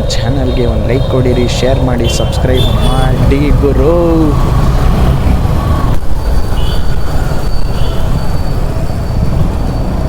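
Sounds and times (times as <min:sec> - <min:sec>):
motorcycle engine rumble: 0:00.0 - 0:10.0
wind rushing over microphone: 0:00.0 - 0:10.0.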